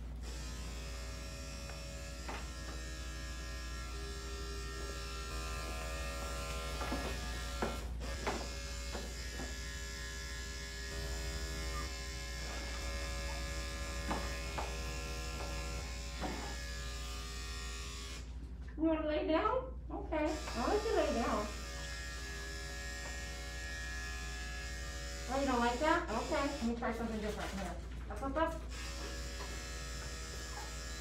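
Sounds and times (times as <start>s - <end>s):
electric clippers buzzing: 0.0s - 18.4s, 20.3s - 27.1s, 28.7s - 31.0s.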